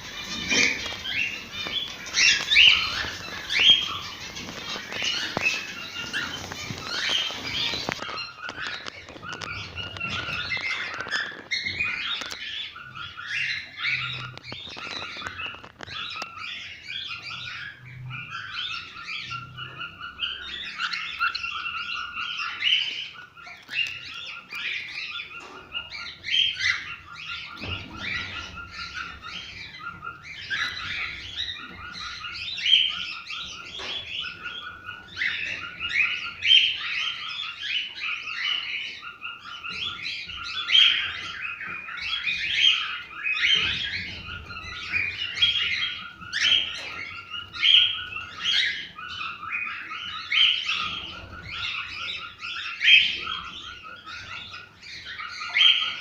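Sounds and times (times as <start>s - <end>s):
cockatiels chirping and warbling: 0.0s - 56.0s.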